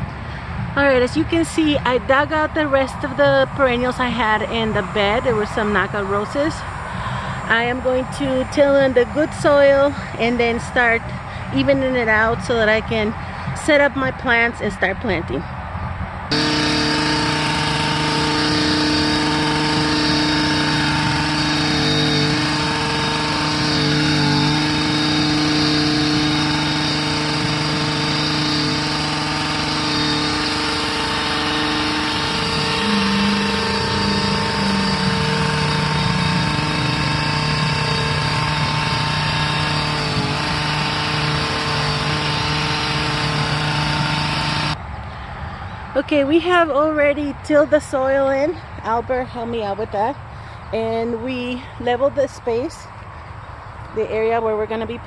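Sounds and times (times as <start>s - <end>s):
garden tiller engine running: 0.0s - 15.6s, 16.3s - 44.8s.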